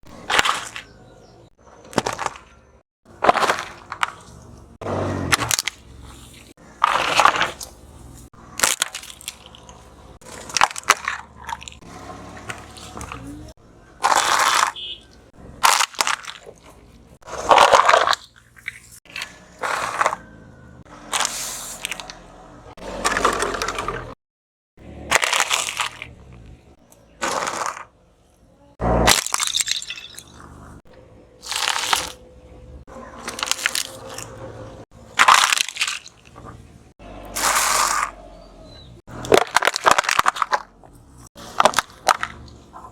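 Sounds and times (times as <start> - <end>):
objects crunching under a car tyre: 0.0 - 24.2, 24.8 - 42.9.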